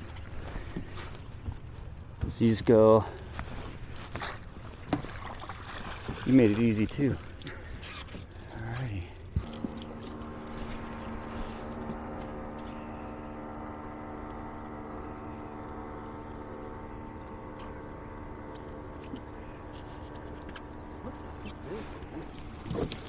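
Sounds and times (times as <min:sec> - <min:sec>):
boat motor humming: 0:00.0 - 0:23.0
water noise: 0:03.4 - 0:23.0.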